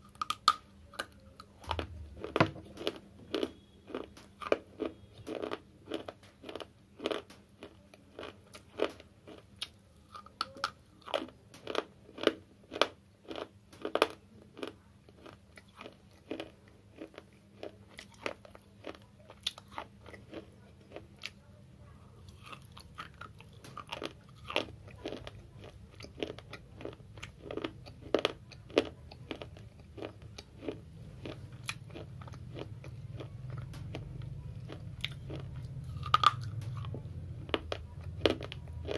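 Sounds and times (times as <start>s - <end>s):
slate being chewed crunching: 0.0s - 21.4s, 22.2s - 38.9s.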